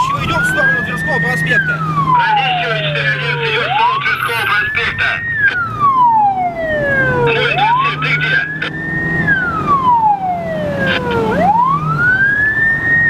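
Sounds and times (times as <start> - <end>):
car engine hum: 0.0 - 13.0
police siren wailing: 0.0 - 13.0.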